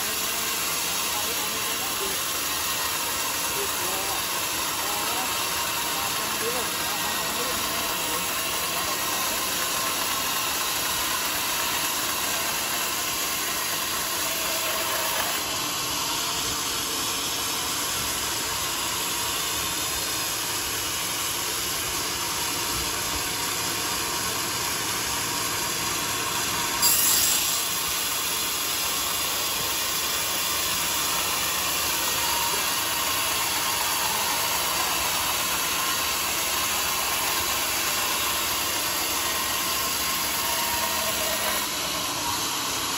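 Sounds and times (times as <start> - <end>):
band saw cutting log: 0.0 - 42.9.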